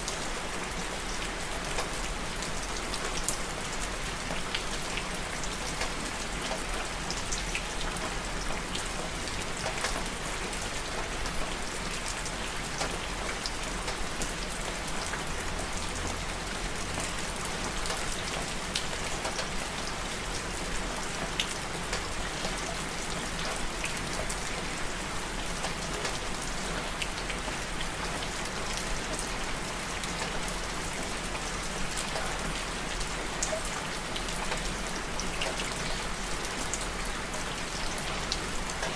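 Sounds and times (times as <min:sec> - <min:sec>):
raindrops pattering on a surface: 0:00.0 - 0:38.9
steady rainfall: 0:00.0 - 0:38.9.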